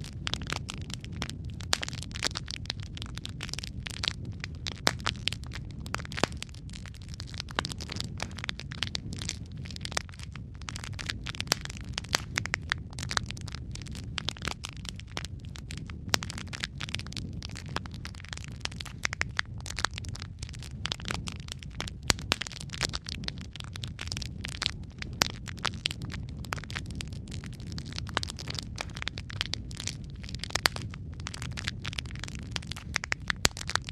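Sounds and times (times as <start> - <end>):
low rumble of flame: 0.0 - 33.9
wood fire crackling and popping: 0.0 - 33.9.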